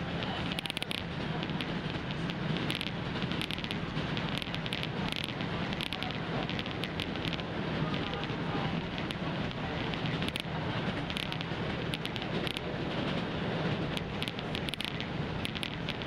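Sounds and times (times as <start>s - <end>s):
crackle of ticks: 0.0s - 13.2s, 13.8s - 16.0s
train interior drone: 0.0s - 16.0s.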